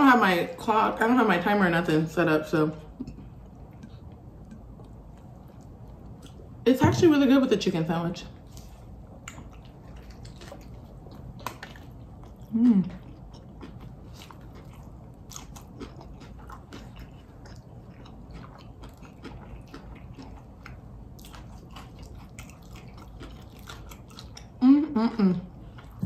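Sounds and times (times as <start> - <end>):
chewing with crunches: 2.9 - 6.6, 8.4 - 26.0.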